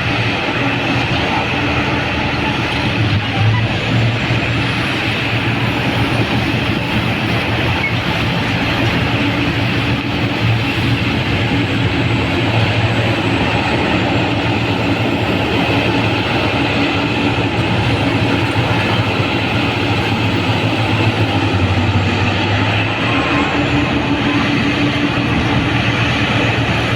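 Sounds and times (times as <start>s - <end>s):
excavator machine drone: 0.0s - 26.9s.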